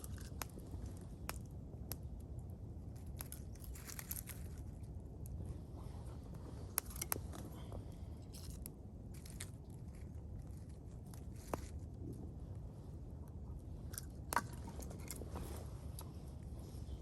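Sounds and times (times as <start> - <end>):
sharp crisp clicks and crunches: 0.0 - 5.5, 6.2 - 12.3, 13.2 - 16.4
steady low rumble: 0.0 - 17.0.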